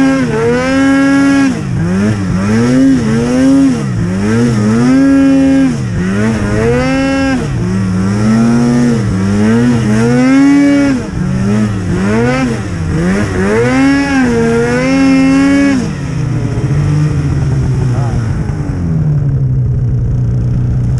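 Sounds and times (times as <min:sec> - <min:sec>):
snowmobile engine revving: 0:00.0 - 0:19.3.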